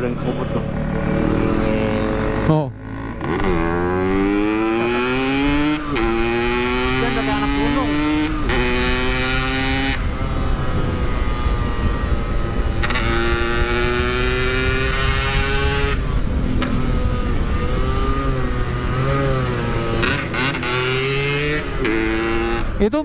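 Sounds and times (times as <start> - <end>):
motorcycle engine revving: 0.0 - 23.0
wind on microphone: 3.2 - 22.8.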